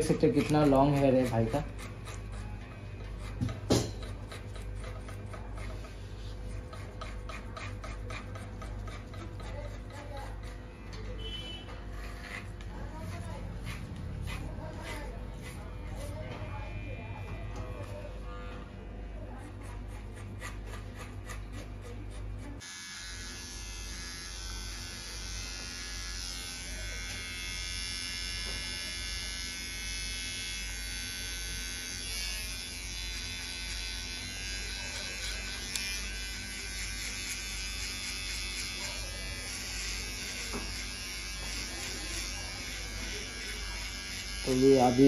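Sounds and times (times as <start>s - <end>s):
electric hair clippers buzzing: 0.0s - 5.9s, 6.6s - 45.0s.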